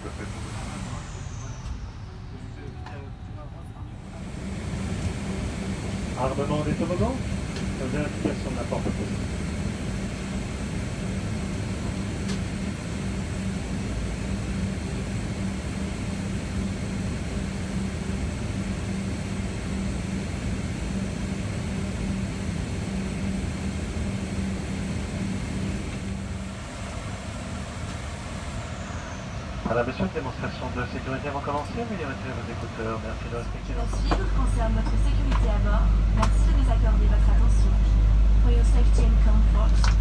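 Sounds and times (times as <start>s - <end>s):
aircraft cabin air rush: 0.0s - 40.0s
constant low hum: 0.0s - 40.0s.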